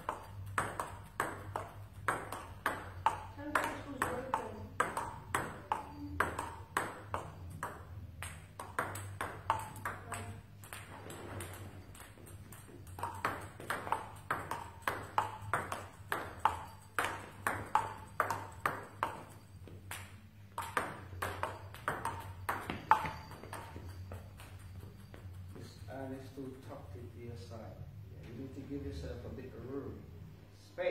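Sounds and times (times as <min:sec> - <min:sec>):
table tennis ball clicking: 0:00.0 - 0:25.9.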